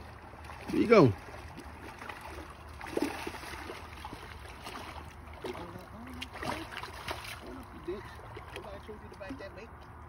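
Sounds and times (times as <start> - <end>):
water washing along rocky shoreline: 0.0 - 9.4.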